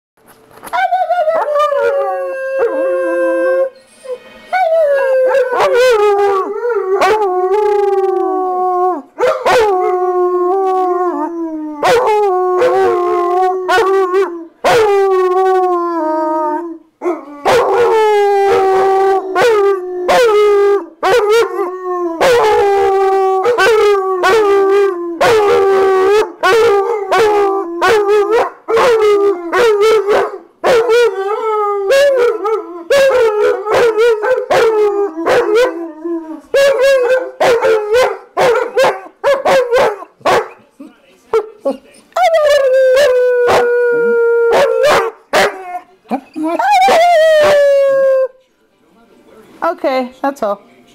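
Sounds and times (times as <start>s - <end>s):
dogs howling: 0.8s - 3.8s, 4.5s - 40.6s, 41.7s - 48.3s.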